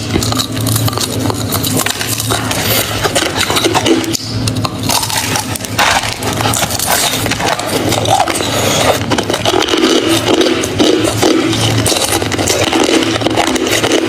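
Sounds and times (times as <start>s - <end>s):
person chewing ice: 0.0s - 14.0s.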